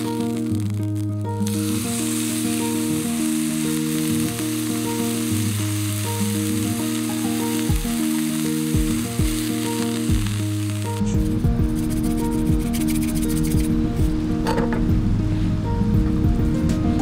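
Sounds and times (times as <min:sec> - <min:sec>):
steak sizzling in skillet: 0:00.0 - 0:13.8
background music with bass: 0:00.0 - 0:17.0.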